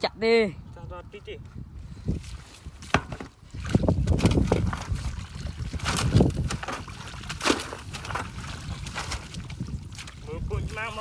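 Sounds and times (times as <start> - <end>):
mud and water squelching: 1.8 - 11.0.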